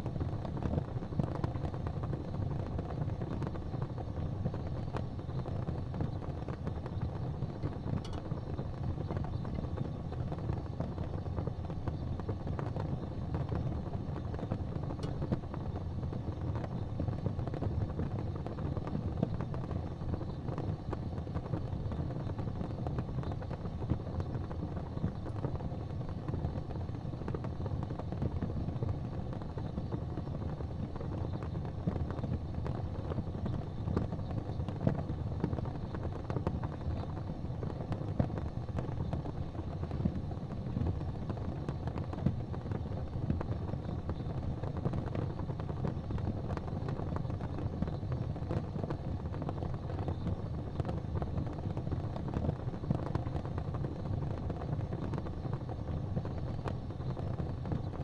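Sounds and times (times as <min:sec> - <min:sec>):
wood fire roaring and crackling: 0:00.0 - 0:58.0.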